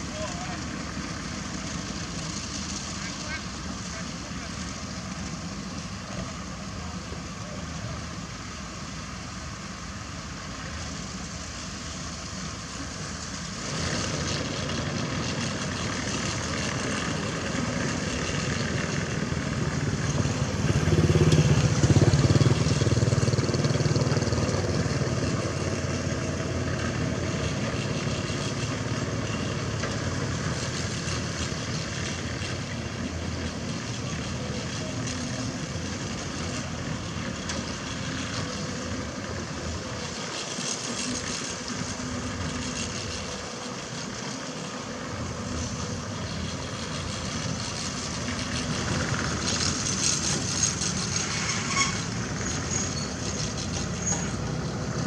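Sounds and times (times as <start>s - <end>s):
diesel excavator engine: 0.0s - 55.0s.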